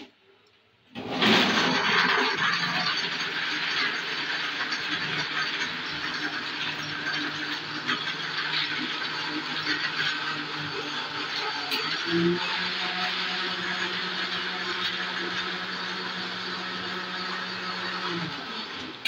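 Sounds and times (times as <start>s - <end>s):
ice churning in blender jar: 1.0s - 19.0s
blender motor whirring: 1.4s - 19.0s.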